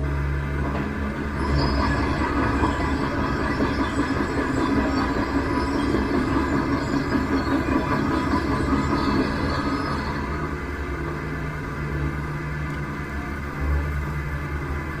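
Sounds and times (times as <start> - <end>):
rattling mechanical rumble: 0.0 - 15.0.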